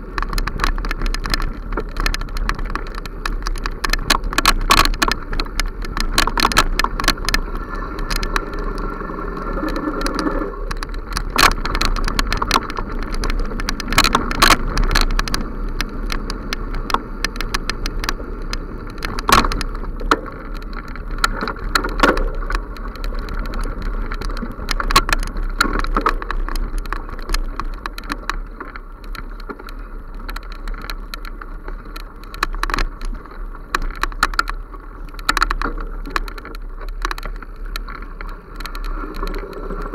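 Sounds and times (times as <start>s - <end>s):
bicycle rattling and knocking: 0.0s - 39.9s
tyre noise rumble: 0.0s - 39.9s.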